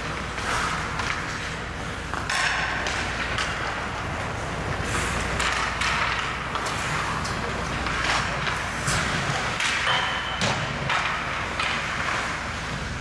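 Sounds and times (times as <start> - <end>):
hockey sticks and puck clacking: 0.0 - 13.0
skate blades scraping ice: 0.0 - 13.0.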